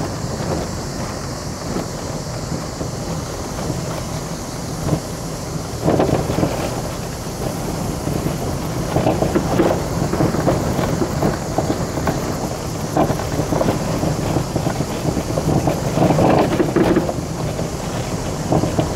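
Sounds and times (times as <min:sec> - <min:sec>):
car engine and road hum: 0:00.0 - 0:18.9
tyres crunching over gravel: 0:00.0 - 0:18.9.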